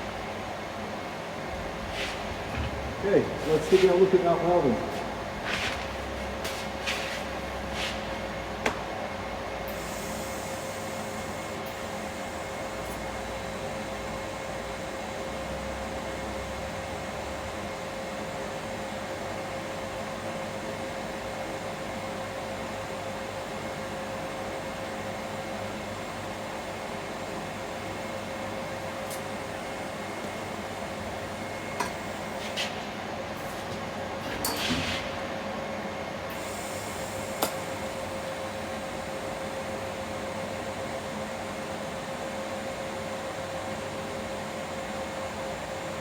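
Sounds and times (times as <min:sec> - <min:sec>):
steady machine hum: 0:00.0 - 0:34.5, 0:35.1 - 0:46.0.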